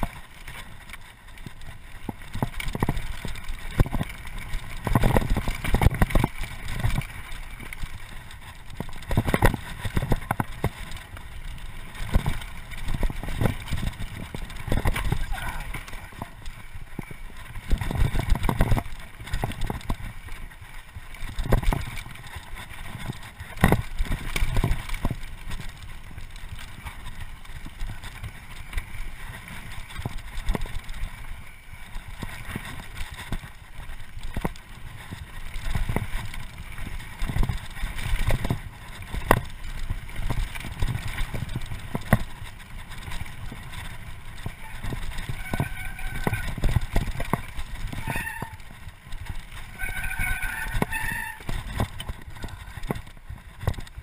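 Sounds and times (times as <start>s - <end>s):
bike knocking and rattling: 0.0s - 54.0s
tyres rumbling on dirt: 0.0s - 54.0s.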